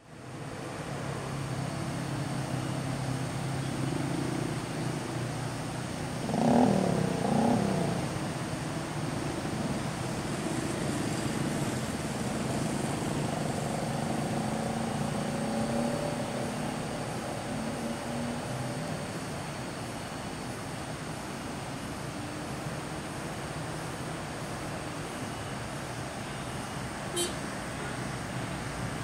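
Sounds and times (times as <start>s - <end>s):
vehicle engines humming: 0.0s - 29.0s.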